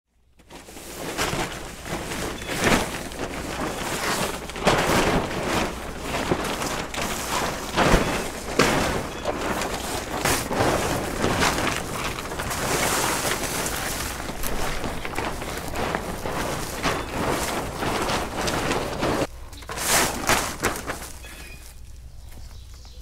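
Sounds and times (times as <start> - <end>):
plastic tarp crinkling and flapping: 0.2 - 22.2
tarp snapping: 0.3 - 22.0.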